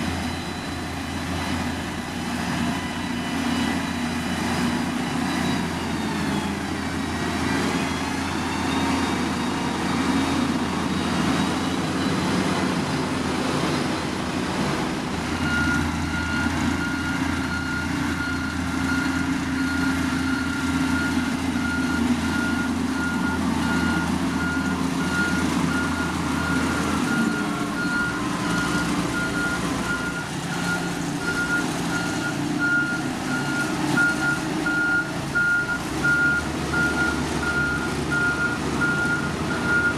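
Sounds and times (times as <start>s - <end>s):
reversing alarm beeping: 0.0s - 13.2s, 15.3s - 39.9s
diesel construction machine running: 0.0s - 39.9s.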